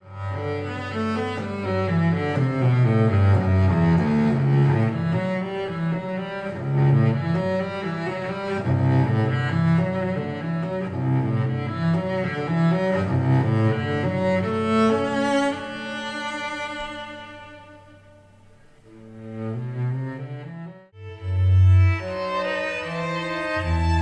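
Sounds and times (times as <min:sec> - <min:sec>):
low bowed strings music: 0:00.0 - 0:24.0.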